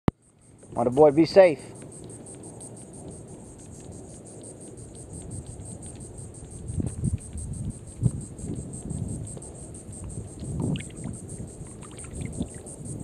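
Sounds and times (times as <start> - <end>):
insects trilling: 0.2 - 13.0.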